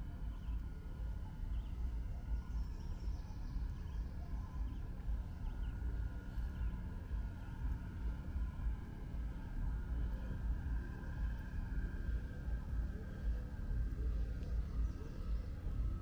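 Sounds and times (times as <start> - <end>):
low rumble on microphone: 0.0 - 16.0.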